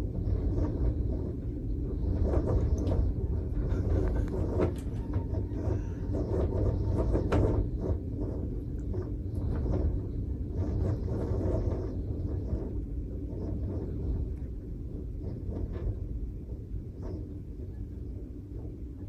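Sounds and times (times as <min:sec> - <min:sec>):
storm wind gusting on microphone: 0:00.0 - 0:19.0.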